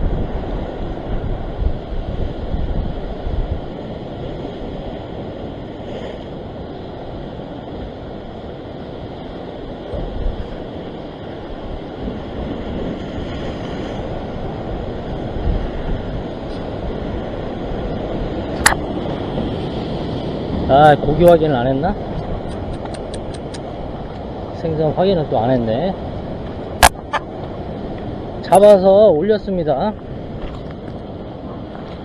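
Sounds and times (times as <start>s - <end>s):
ocean surf breaking over rocks: 0.0s - 32.0s
wind buffeting microphone: 0.0s - 32.0s.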